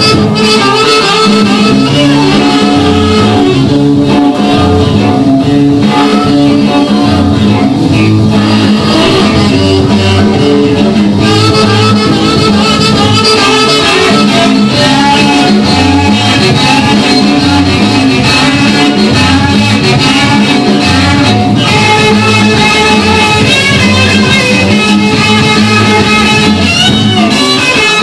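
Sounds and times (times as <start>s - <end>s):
rock and roll band music: 0.0s - 28.0s.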